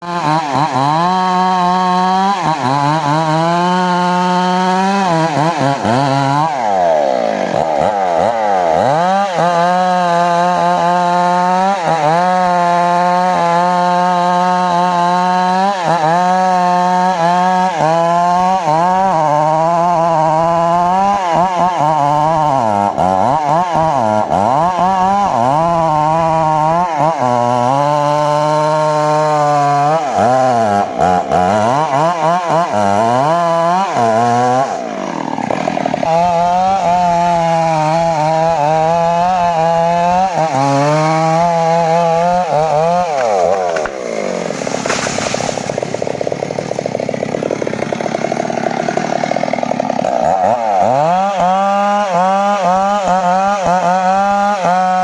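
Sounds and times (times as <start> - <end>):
engine saw cutting wood: 0.0 - 55.0.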